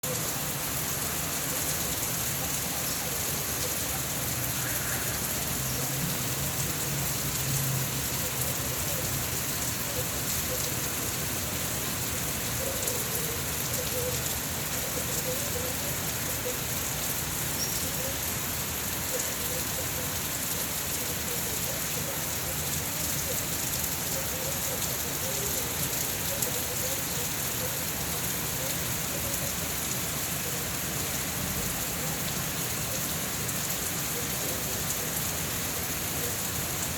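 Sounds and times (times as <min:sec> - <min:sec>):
rain pattering outside: 0:00.0 - 0:36.9.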